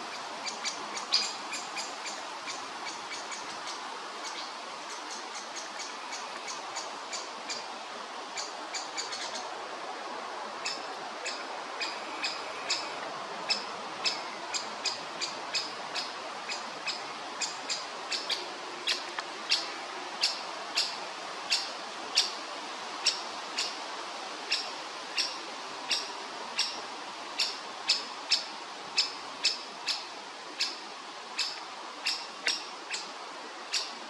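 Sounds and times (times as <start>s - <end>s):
woodpecker chick begging calls: 0.2s - 7.7s, 8.4s - 9.5s, 10.6s - 22.4s, 24.5s - 26.8s, 27.4s - 30.8s, 31.4s - 33.1s.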